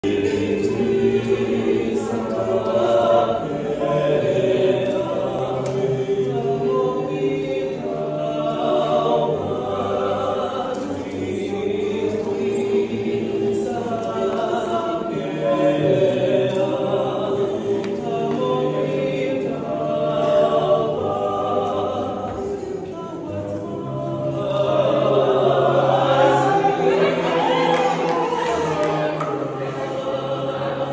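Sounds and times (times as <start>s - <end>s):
male trio singing a cappella: 0.0s - 30.9s.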